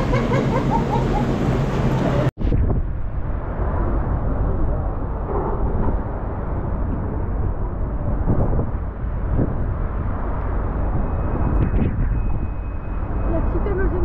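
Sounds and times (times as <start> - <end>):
loud low rumbling noise: 0.0 - 14.0.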